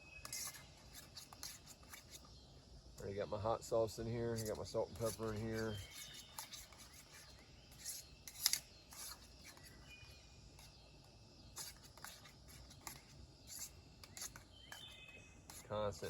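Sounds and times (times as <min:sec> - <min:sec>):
spoon scraping metal pot: 0:00.1 - 0:02.2, 0:04.3 - 0:10.8, 0:11.6 - 0:16.0.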